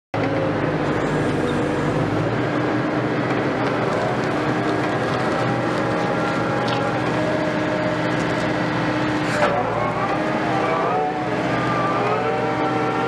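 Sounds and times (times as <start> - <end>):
excavator diesel engine and hydraulics: 0.2 - 13.0.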